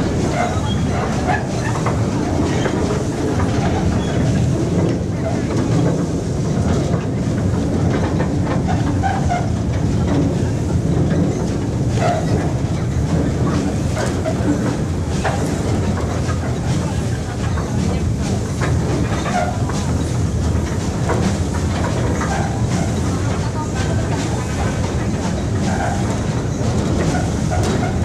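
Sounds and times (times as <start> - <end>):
steam train rumble: 0.0 - 28.0
wheels clacking over rails: 0.0 - 28.0.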